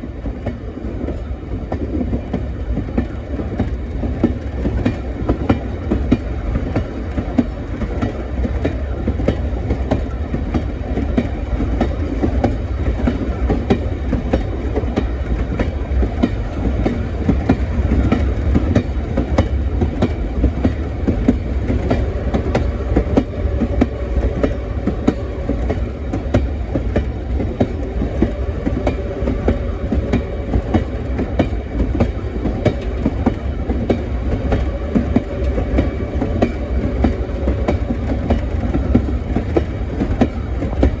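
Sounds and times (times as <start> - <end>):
train rumbling on track: 0.0 - 41.0
wheels clacking over rails: 0.3 - 41.0.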